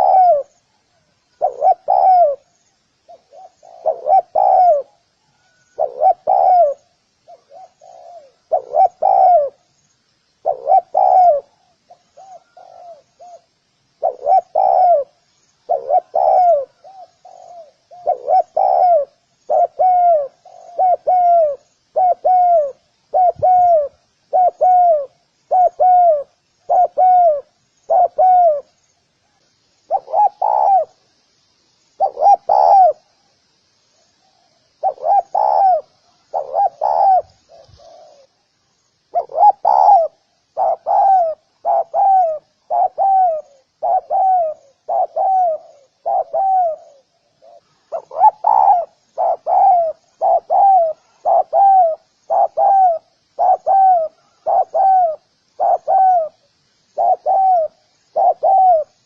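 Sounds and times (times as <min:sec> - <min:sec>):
dove cooing: 0:00.0 - 0:09.7, 0:10.4 - 0:28.8, 0:29.9 - 0:31.0, 0:32.0 - 0:33.2, 0:34.2 - 0:38.4, 0:39.1 - 0:59.0.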